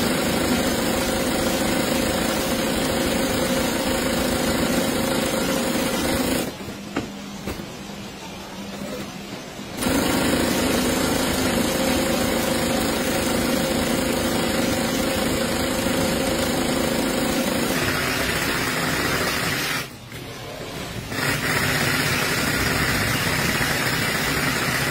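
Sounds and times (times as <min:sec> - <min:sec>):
industrial sewing machine humming: 0:00.0 - 0:06.7, 0:08.8 - 0:24.9.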